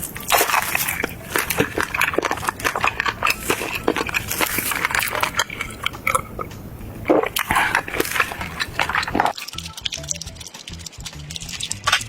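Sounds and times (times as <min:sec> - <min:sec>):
person chewing with wet smacking: 0:00.0 - 0:12.0
rapid mouth clicks: 0:00.0 - 0:12.0.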